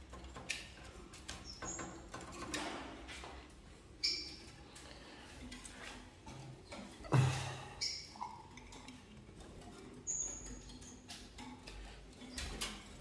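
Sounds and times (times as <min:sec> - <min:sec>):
faint clicks and knocks: 0:00.0 - 0:07.1, 0:08.2 - 0:13.0
songbirds chirping: 0:00.0 - 0:13.0.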